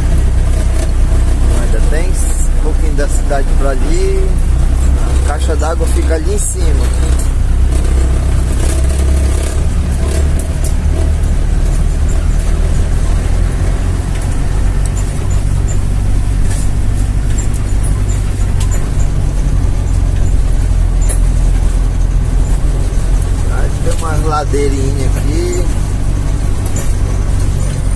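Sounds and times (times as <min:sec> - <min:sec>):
car engine running: 0:00.0 - 0:27.9
light ticks and rattles: 0:00.0 - 0:27.9.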